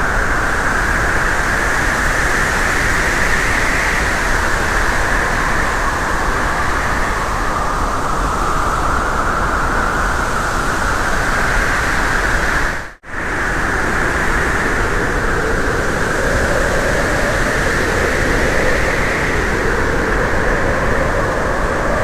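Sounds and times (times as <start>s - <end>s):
road and wind noise of vehicle: 0.0s - 22.0s.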